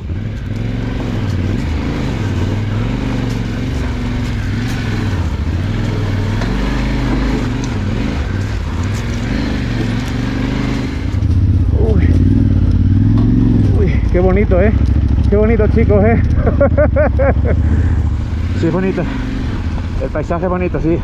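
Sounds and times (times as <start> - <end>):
motorcycle engine revving unevenly: 0.0 - 21.0.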